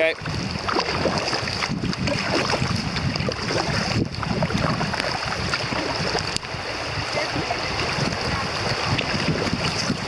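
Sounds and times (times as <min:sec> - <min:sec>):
river water splashing and gurgling: 0:00.0 - 0:10.0.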